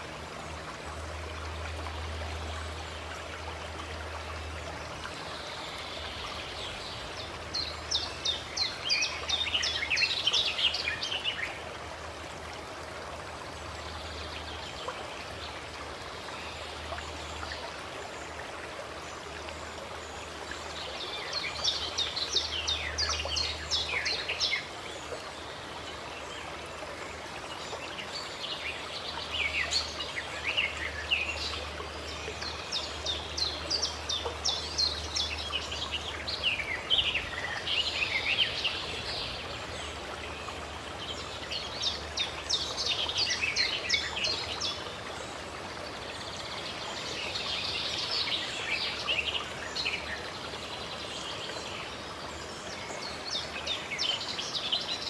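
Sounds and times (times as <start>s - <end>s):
running water rushing: 0.0s - 55.0s
songbirds chirping: 0.0s - 55.0s.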